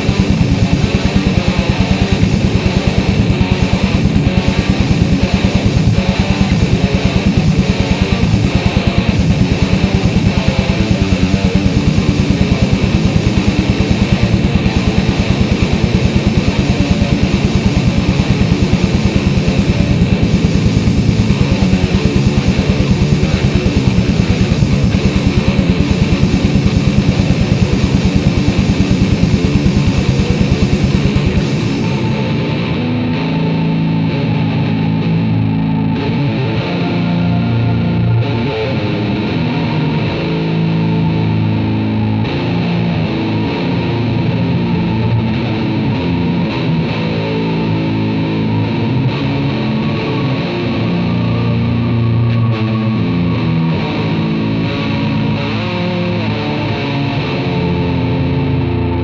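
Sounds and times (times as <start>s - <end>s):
death metal instrumental: 0.0s - 59.0s
held guitar tones: 0.0s - 59.0s.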